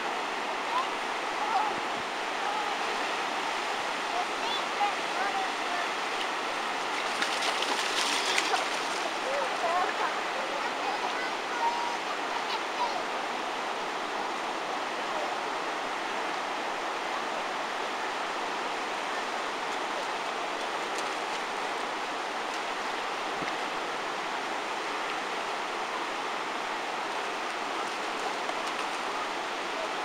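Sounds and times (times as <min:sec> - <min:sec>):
surf washing among rocks: 0:00.0 - 0:30.0.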